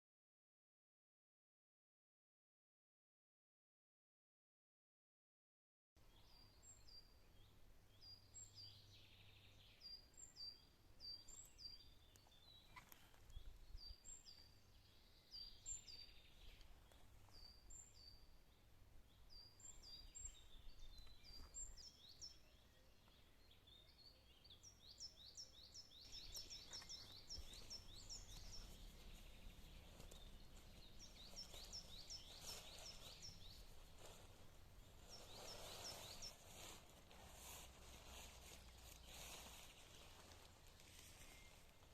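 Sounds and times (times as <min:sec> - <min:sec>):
songbirds chirping: 0:06.0 - 0:41.9.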